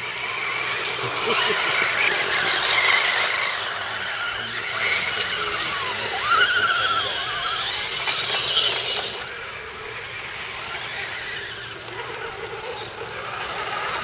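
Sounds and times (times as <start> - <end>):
toy truck motors whining: 0.0 - 14.0.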